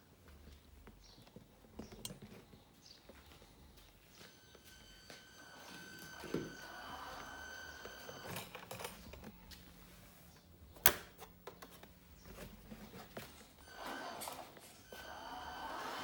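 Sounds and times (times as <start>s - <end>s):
faint steady hum: 1.8s - 16.0s.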